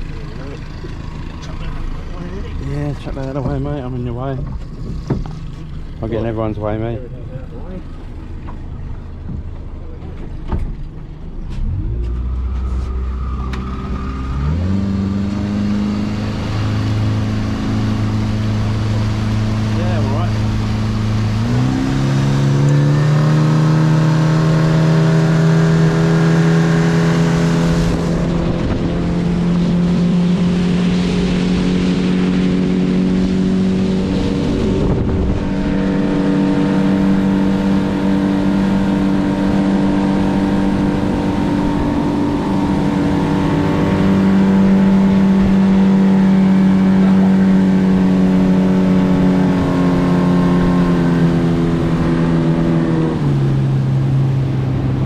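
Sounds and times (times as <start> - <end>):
outboard motor running: 0.0 - 11.4, 12.2 - 55.0.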